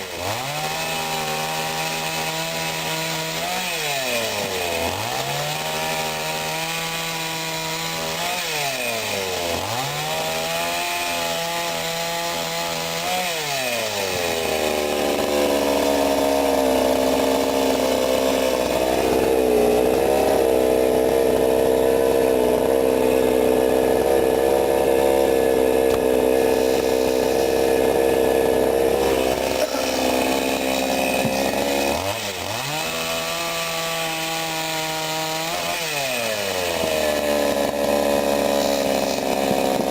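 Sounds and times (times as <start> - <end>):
chainsaw cutting wood: 0.0 - 39.9
chainsaw running: 0.0 - 39.9.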